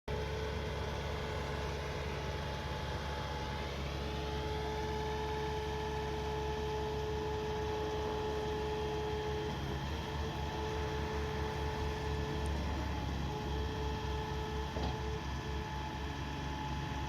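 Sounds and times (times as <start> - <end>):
diesel engine running: 0.1 - 17.0.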